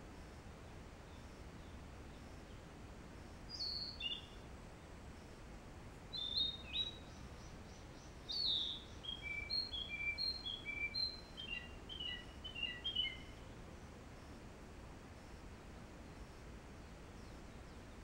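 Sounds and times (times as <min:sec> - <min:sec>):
faint steady hiss: 0:00.0 - 0:18.0
songbirds chirping: 0:00.0 - 0:18.0.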